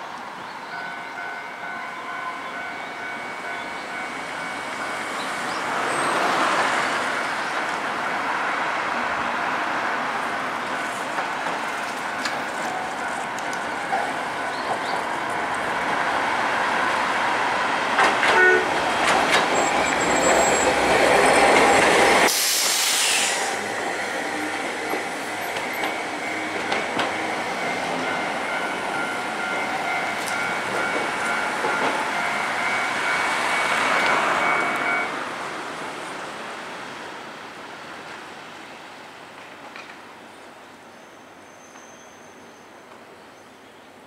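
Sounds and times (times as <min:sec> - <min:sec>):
tram wheels rumbling: 0:00.8 - 0:37.0.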